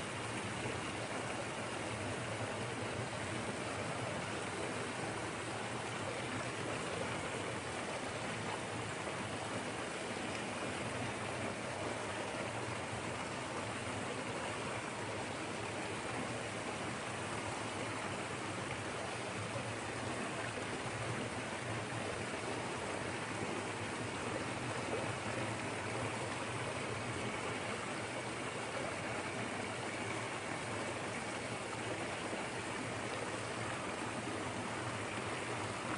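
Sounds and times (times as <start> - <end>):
waterfall rushing and splashing: 0.0 - 35.9.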